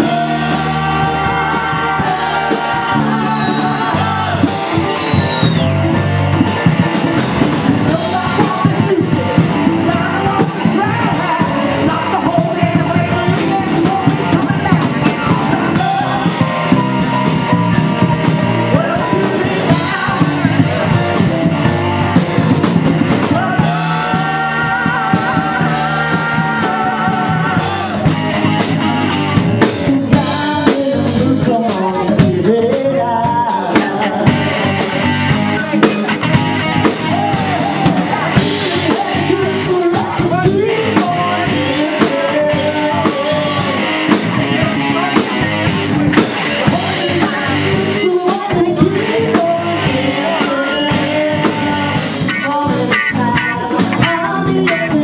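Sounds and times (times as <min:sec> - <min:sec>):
drum kit: 0:00.0 - 0:55.0
electric guitar: 0:00.0 - 0:55.0
lead vocals singing: 0:00.0 - 0:55.0.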